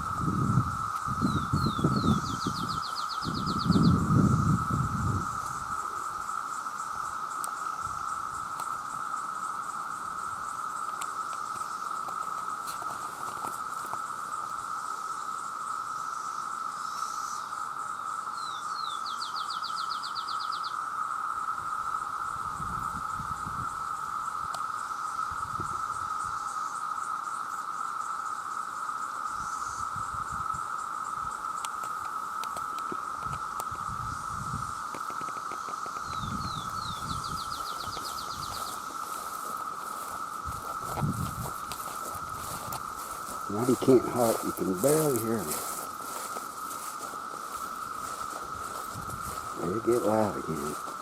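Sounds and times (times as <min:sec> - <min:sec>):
cicadas droning: 0:00.0 - 0:51.0.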